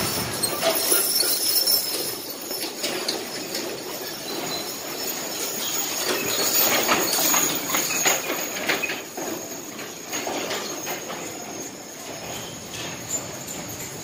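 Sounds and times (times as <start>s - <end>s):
harness and wagon hardware jingling: 0.0s - 14.0s
wagon wheels rolling: 0.0s - 14.0s.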